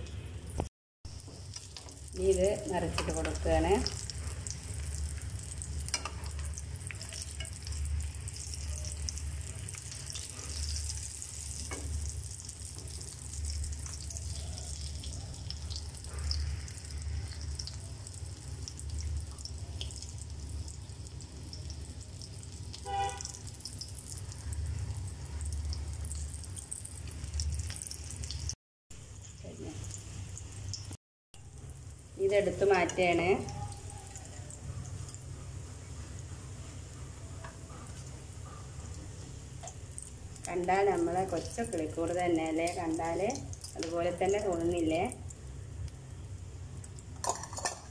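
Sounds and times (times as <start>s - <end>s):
deep-frying sizzling crackle: 0.0s - 47.9s.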